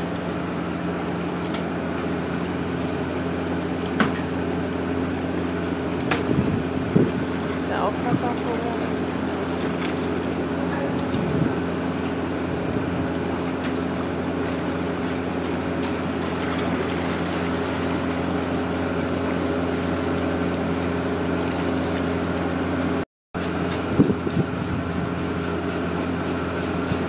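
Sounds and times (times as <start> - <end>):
engine humming at idle: 0.0 - 27.0
water noise: 0.0 - 27.0
wind: 0.0 - 27.0.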